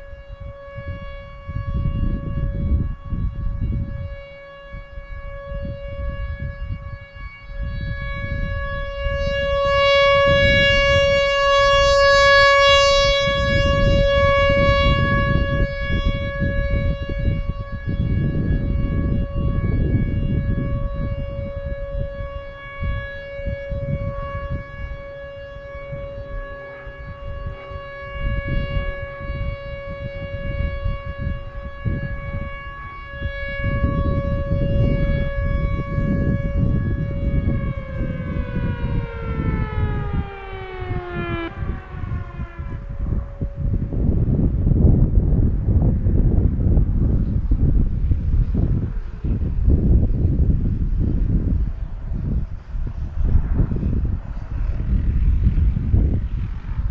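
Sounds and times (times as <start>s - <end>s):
low rumbling noise: 0.0s - 56.9s
steady warning siren tone: 0.0s - 56.9s.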